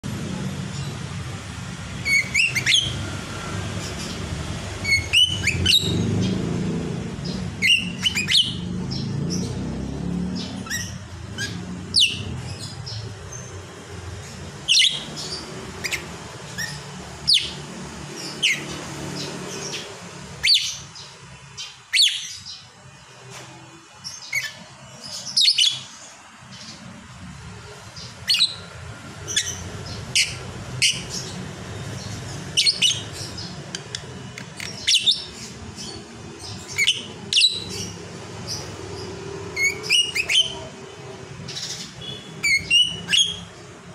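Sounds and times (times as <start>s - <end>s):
bird chirping: 0.1s - 22.9s, 23.9s - 43.9s.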